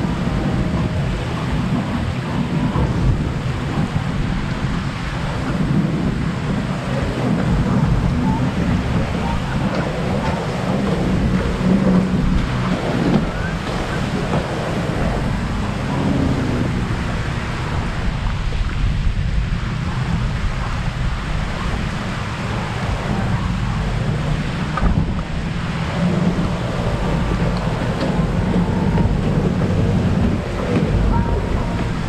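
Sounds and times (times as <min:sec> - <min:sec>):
waves washing on shore: 0:00.0 - 0:32.0
wind buffeting microphone: 0:00.0 - 0:32.0.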